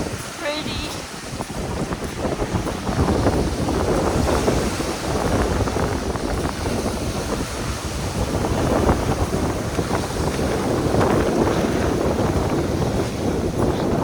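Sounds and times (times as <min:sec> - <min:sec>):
surf washing: 0:00.0 - 0:14.0
wind buffeting microphone: 0:00.0 - 0:14.0.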